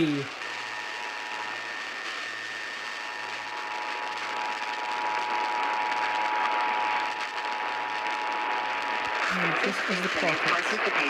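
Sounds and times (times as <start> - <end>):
radio hiss and static: 0.0 - 11.0.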